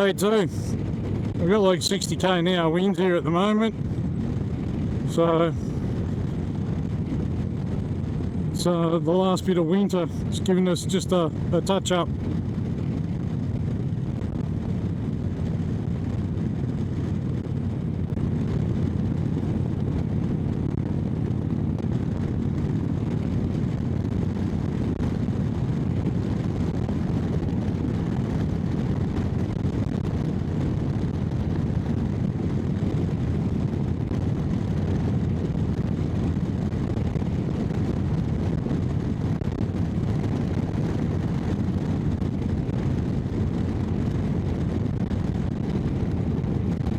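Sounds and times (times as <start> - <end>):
wind on microphone: 0.0 - 46.9.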